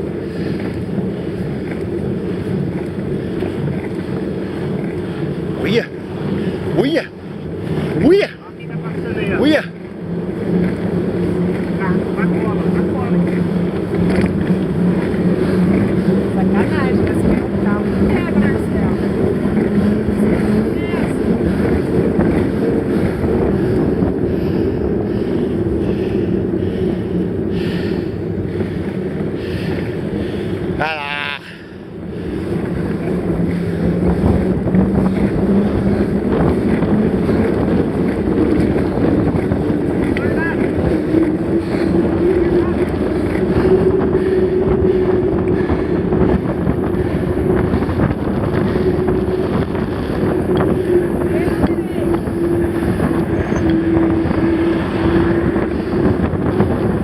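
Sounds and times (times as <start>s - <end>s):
steady hum: 0.0s - 57.0s
wind buffeting microphone: 0.0s - 57.0s.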